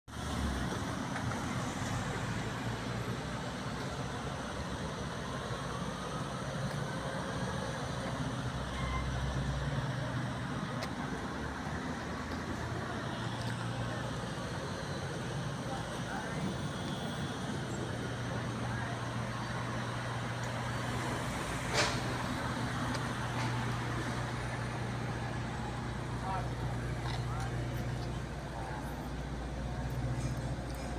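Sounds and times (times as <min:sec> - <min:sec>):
street traffic: 0:00.1 - 0:30.9
vehicle engine: 0:00.1 - 0:30.9.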